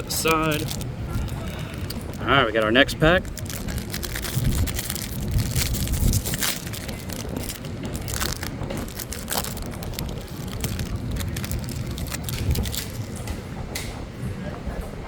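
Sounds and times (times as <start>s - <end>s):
wrapper tearing and crinkling: 0.0s - 13.2s
wind rumble on microphone: 0.0s - 15.0s.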